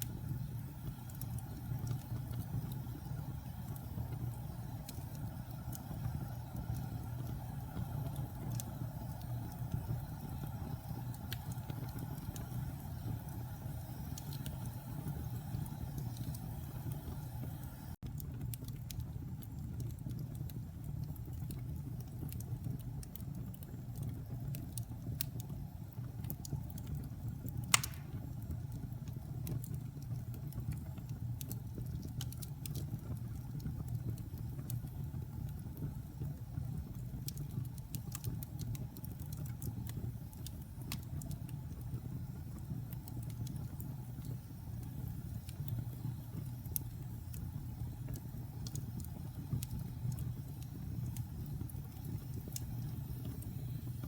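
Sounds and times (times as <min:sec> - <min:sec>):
fire pops: 0:00.0 - 0:25.5, 0:26.2 - 0:54.0
wood fire crackling: 0:00.0 - 0:54.0.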